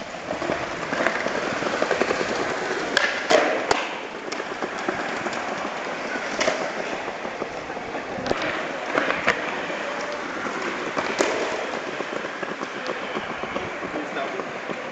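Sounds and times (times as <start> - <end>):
skateboard deck clacking on floor: 0.0 - 14.9
skateboard wheels rolling on floor: 0.0 - 14.9.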